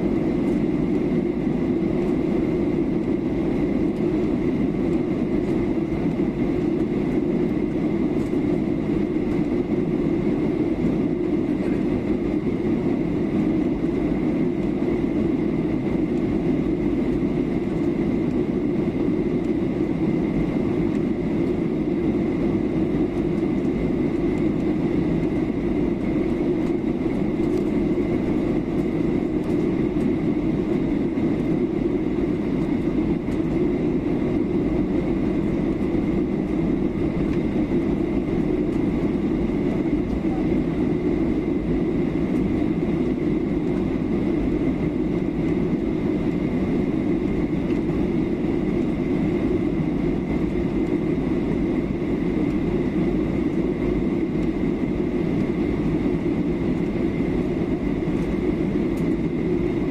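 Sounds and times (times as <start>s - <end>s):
cabin airflow rush: 0.0s - 59.9s
jet engines humming: 0.0s - 59.9s.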